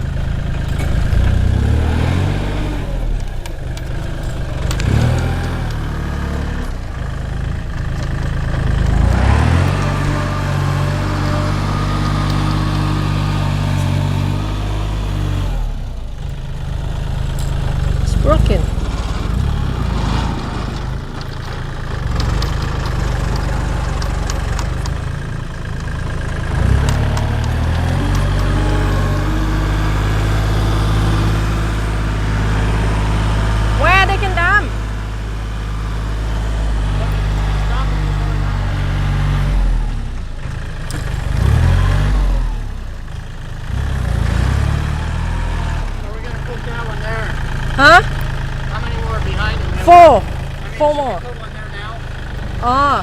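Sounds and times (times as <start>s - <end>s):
diesel engine running at low revs: 0.0s - 53.0s.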